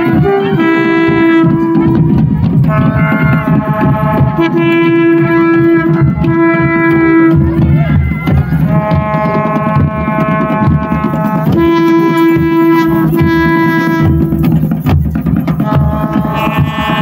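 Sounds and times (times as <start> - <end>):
wind horns holding long notes: 0.0 - 14.8, 15.6 - 17.0
steady drumming: 0.0 - 17.0.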